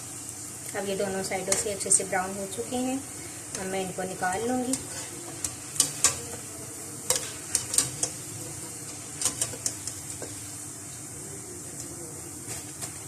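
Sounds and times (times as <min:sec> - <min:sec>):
food sizzling in frying oil: 0:00.0 - 0:13.0.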